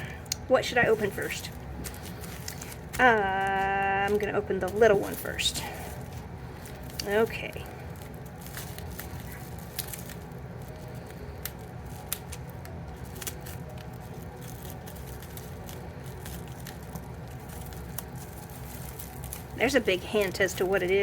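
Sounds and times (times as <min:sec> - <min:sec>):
steady low hum: 0:00.0 - 0:21.0
packaging clicks and crinkles: 0:00.2 - 0:21.0.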